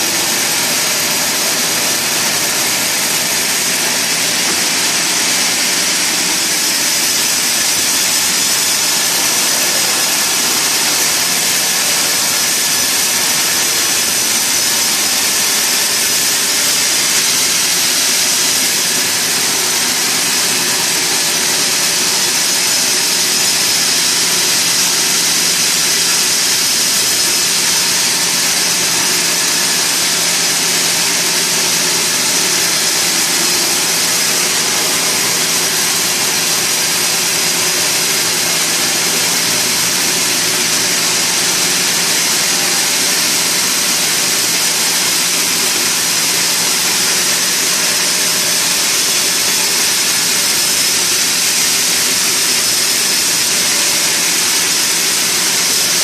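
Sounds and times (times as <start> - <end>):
machinery hum: 0.0 - 56.0
sawmill machinery running: 0.0 - 56.0.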